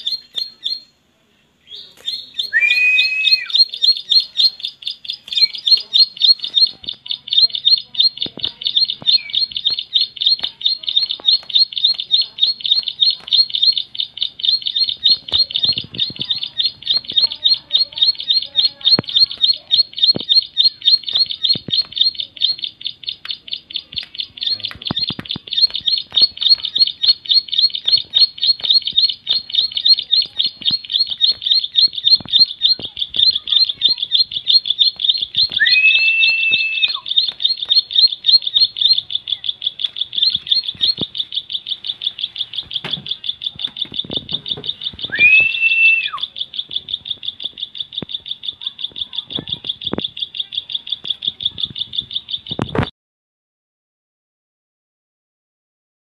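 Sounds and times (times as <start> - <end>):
bird high chirping song: 0.0 - 1.0, 1.6 - 52.9.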